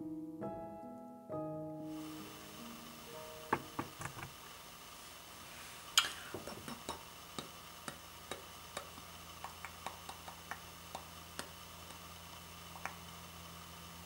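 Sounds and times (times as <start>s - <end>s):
steady low hum: 1.9s - 14.0s.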